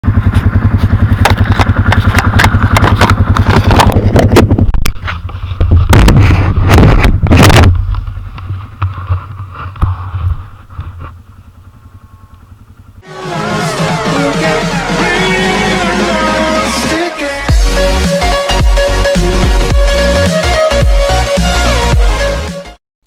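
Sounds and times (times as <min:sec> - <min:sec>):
low hum: 0:00.0 - 0:22.4
atv engine running: 0:00.0 - 0:22.5.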